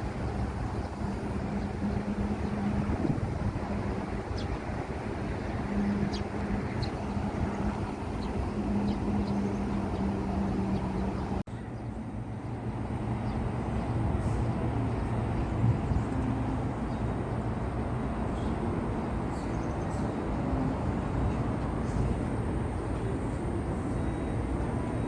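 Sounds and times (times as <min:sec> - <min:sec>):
low engine hum: 0:00.0 - 0:25.0
traffic noise: 0:00.0 - 0:25.0.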